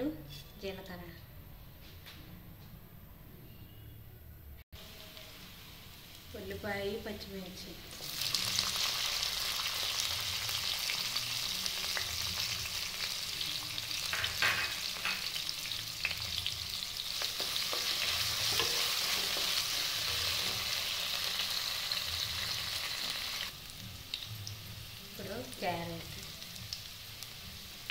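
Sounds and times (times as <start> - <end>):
food sizzling in hot oil: 4.8 - 27.9.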